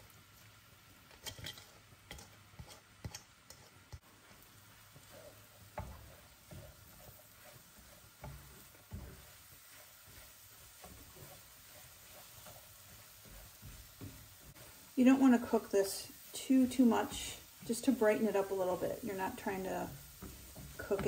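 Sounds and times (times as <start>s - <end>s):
broccoli sizzling in a skillet: 0.0s - 21.0s
spatula scraping a pan: 1.0s - 21.0s.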